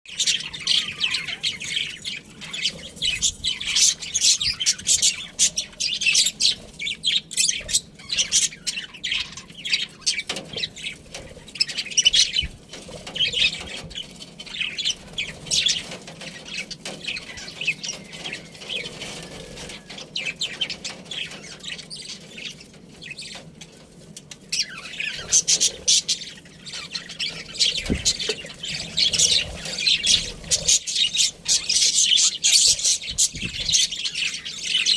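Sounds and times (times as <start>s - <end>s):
budgerigars chirping: 0.1s - 23.8s, 24.4s - 34.9s.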